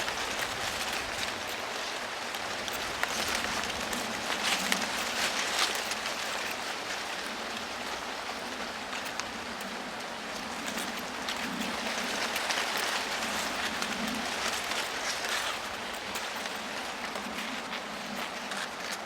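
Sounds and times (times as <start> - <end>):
wind rustling corn leaves: 0.0 - 19.0.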